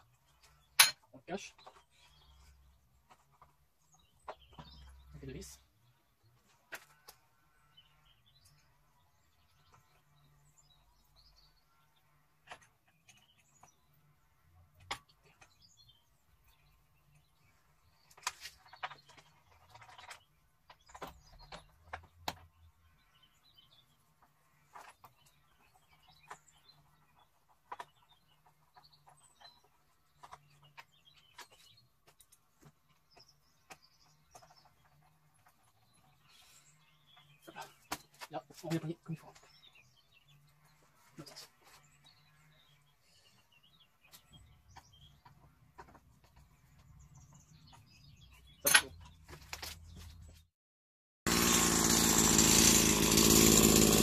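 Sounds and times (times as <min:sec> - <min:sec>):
small birds chirping: 0:00.0 - 0:50.5.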